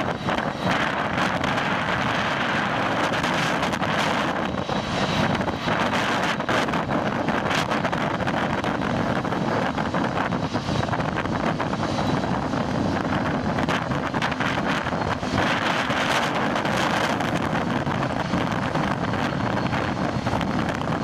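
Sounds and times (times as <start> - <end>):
jet engines roaring: 0.0 - 21.0
wind buffeting microphone: 0.0 - 21.0.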